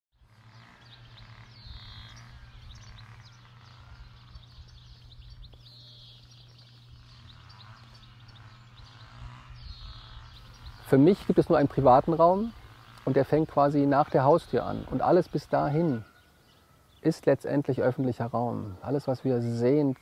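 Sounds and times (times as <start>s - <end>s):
birds chirping and singing: 0.2s - 20.0s
steady low hum: 0.2s - 20.0s.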